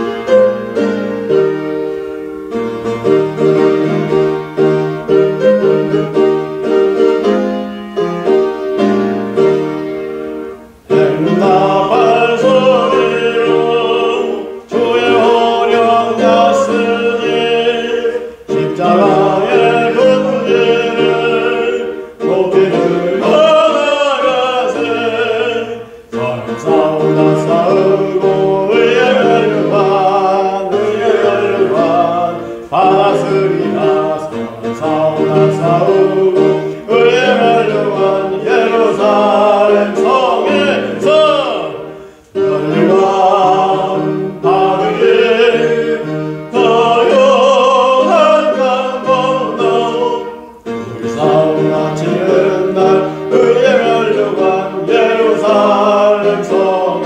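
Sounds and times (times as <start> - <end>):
man singing with vibrato: 10.8 - 57.0.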